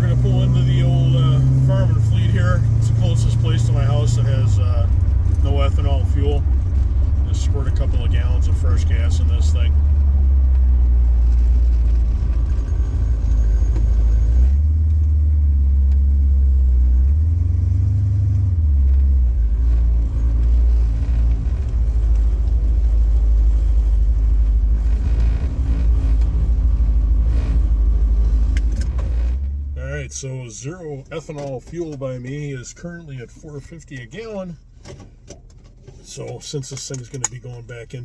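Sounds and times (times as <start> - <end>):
car engine low exhaust note: 0.0 - 38.0.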